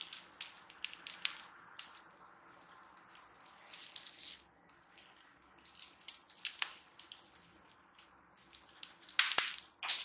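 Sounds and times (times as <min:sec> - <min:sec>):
slime crackling and popping: 0:00.0 - 0:10.0
slime crunching: 0:00.0 - 0:10.0.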